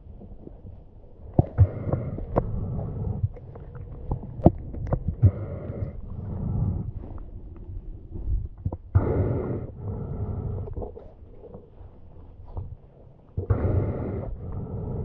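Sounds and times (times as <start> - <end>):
muffled underwater rumbling: 0.0 - 15.0.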